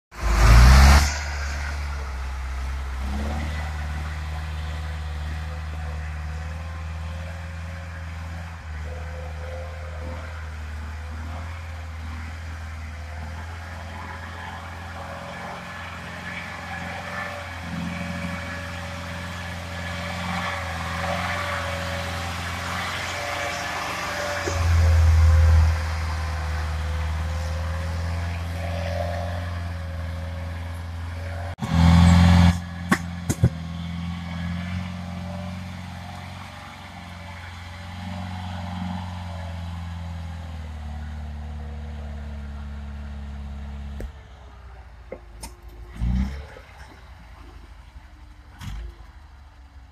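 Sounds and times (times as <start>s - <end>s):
truck engine running: 0.1s - 49.9s.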